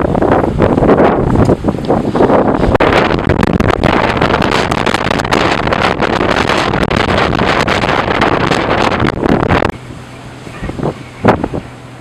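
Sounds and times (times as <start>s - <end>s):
strong wind rushing: 0.0s - 12.0s
wind buffeting microphone: 0.0s - 12.0s.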